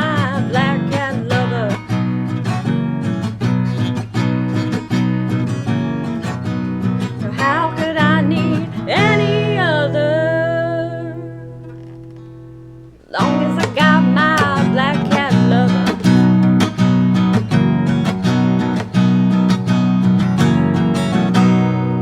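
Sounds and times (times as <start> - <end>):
acoustic guitar strummed: 0.0 - 22.0.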